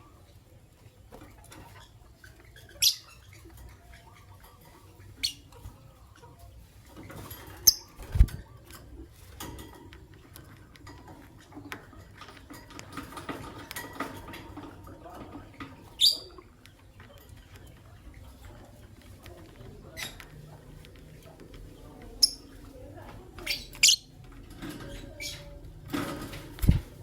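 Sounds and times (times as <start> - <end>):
birds scrabbling in cage: 0.0 - 27.0.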